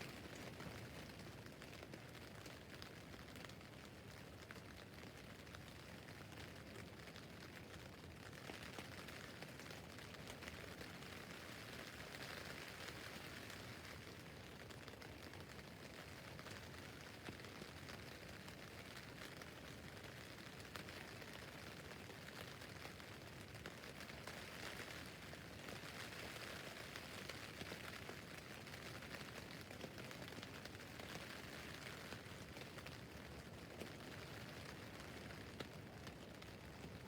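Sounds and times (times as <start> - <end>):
rain on tent roof: 0.0 - 37.0.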